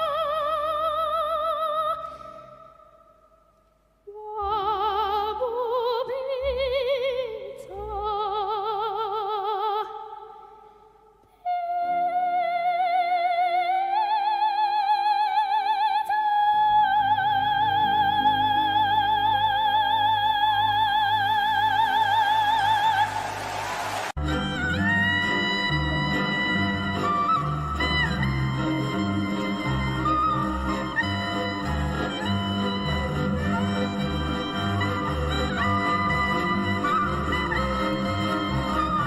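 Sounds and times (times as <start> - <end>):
slow operatic melody: 0.0 - 39.0.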